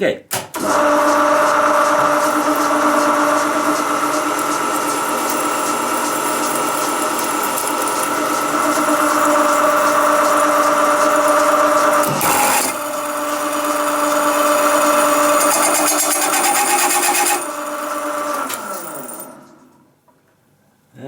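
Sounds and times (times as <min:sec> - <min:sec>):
hole saw cutting steel plate: 0:00.6 - 0:18.9.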